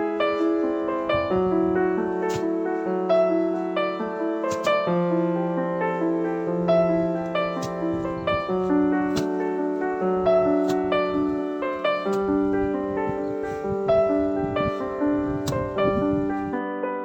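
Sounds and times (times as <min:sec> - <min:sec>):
soft piano-like keyboard music: 0:00.0 - 0:17.0.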